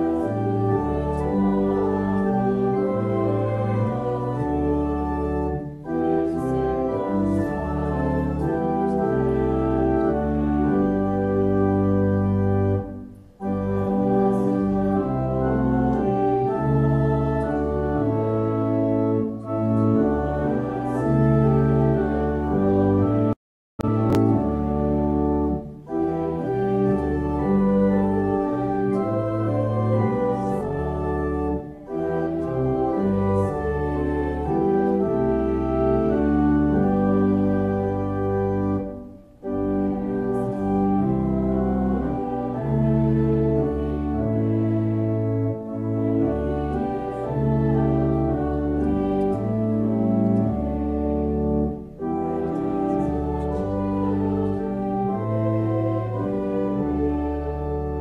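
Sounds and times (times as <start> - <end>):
pipe organ playing hymn: 0.0 - 58.0.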